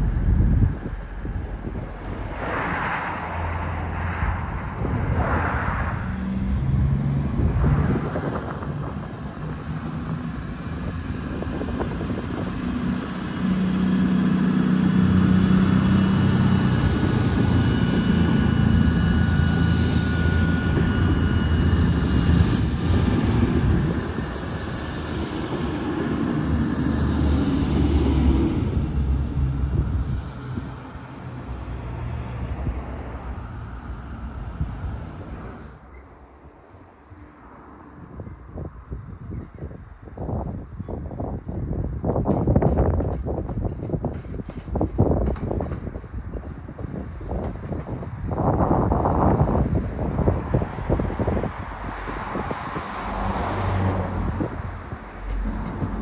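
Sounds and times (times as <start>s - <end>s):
diesel train passing: 0.0s - 39.2s, 41.1s - 56.0s.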